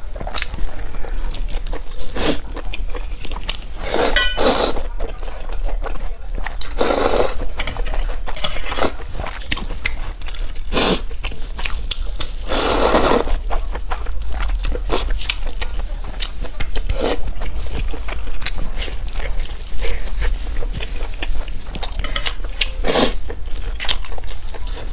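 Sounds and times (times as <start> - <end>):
chewing and biting: 0.0 - 24.9.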